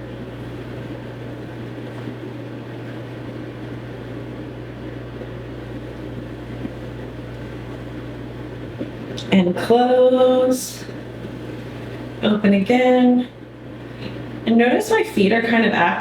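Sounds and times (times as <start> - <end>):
low room hum with hiss: 0.0 - 16.0.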